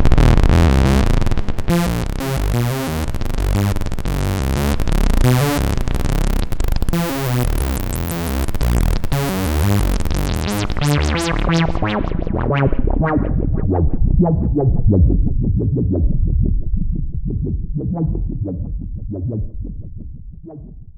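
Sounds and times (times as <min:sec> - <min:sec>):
buzzy synthesizer repeated low notes: 0:00.0 - 0:20.9.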